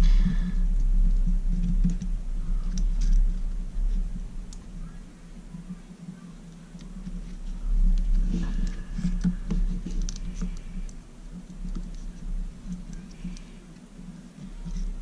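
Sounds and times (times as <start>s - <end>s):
steady low hum: 0.0s - 15.0s
plastic parts clicking and scratching: 0.8s - 4.8s, 6.4s - 15.0s.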